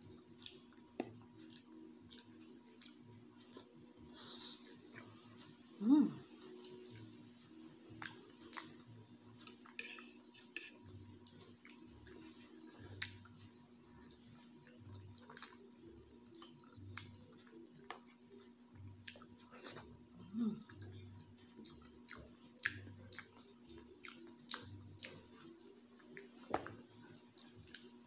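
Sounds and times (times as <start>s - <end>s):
chewing soft food: 0.0s - 28.0s.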